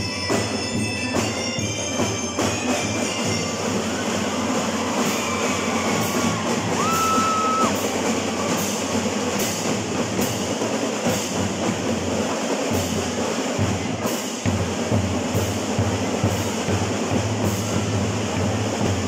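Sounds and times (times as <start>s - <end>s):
snare and bass drums beating: 0.0s - 19.0s.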